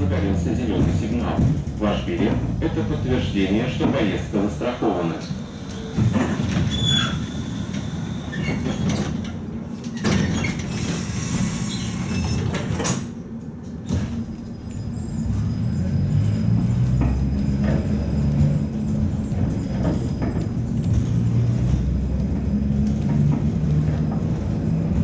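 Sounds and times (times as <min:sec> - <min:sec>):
tram interior rumble: 0:00.0 - 0:25.0.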